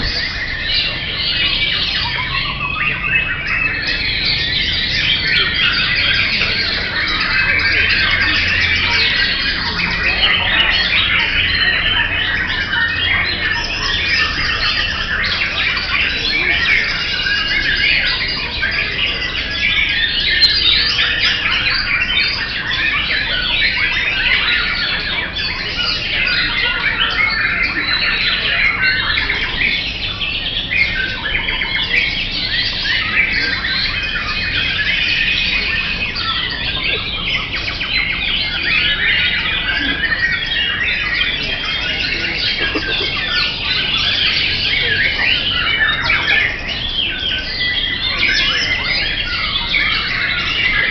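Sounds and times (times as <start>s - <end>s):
songbirds singing chorus: 0.0s - 50.9s.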